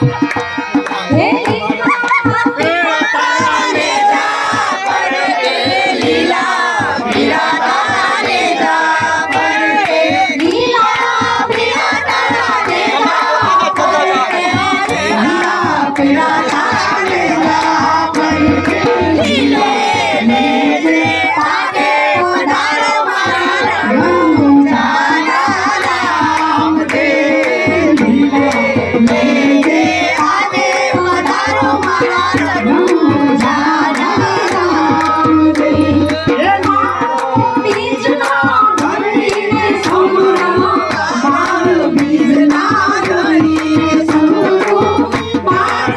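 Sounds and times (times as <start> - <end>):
dhol drum beat: 0.0 - 45.9.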